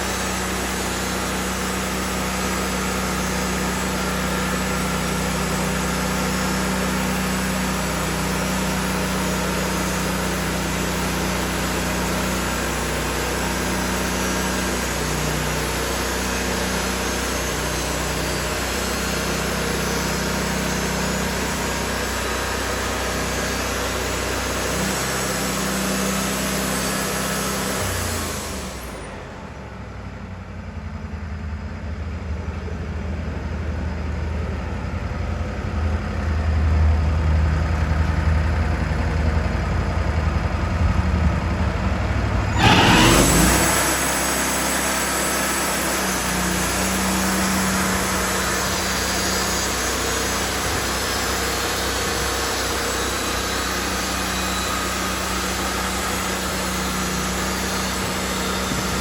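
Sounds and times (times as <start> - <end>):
sawmill engine humming: 0.0 - 30.6, 31.8 - 59.0.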